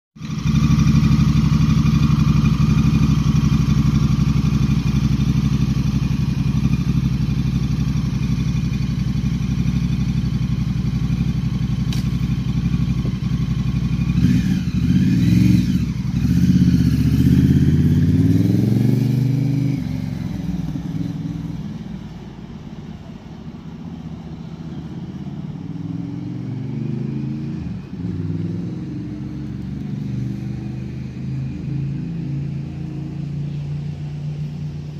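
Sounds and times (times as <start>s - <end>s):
motorcycle engine idling and revving: 0.2s - 34.9s.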